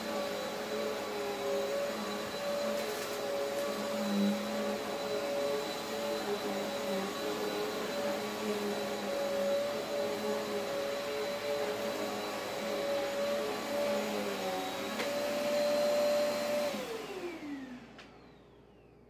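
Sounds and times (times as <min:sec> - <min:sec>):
vacuum cleaner on carpet: 0:00.0 - 0:19.0.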